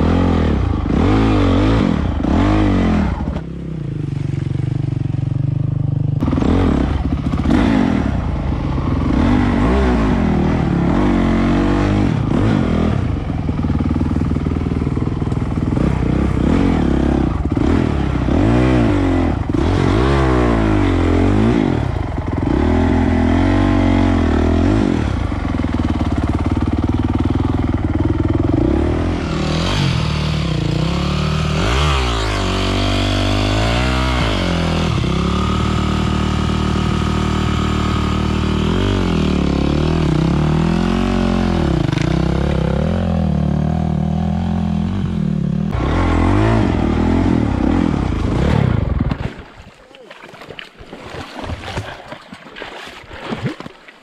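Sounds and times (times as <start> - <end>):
dirt bike engines revving: 0.0 - 4.3, 6.2 - 49.1.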